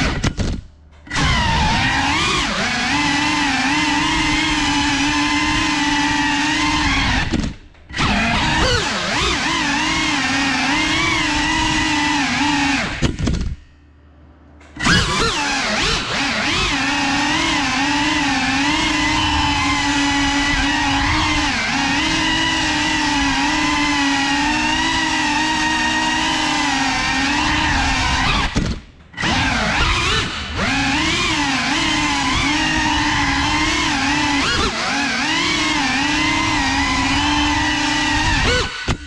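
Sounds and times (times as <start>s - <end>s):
drone motors whining: 0.0s - 13.7s, 14.6s - 39.0s.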